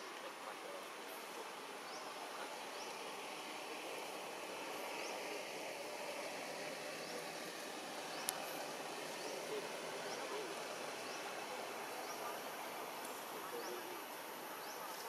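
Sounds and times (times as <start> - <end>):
forest background hiss: 0.0 - 15.0.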